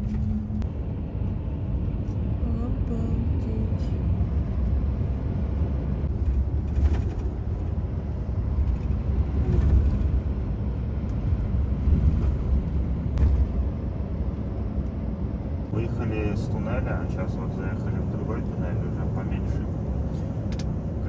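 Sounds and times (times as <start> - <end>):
lorry engine and road rumble: 0.0 - 21.0.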